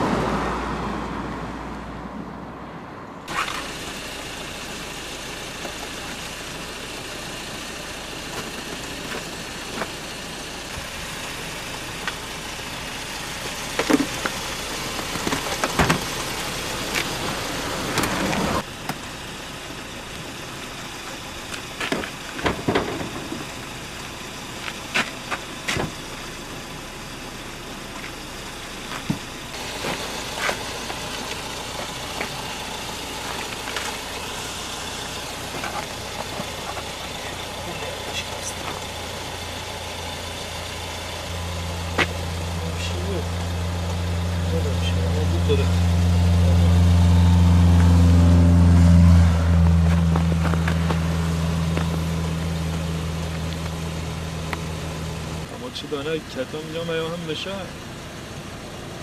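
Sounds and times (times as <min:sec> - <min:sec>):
street noise: 0:00.0 - 0:59.0
vehicle engine idling: 0:03.2 - 0:59.0.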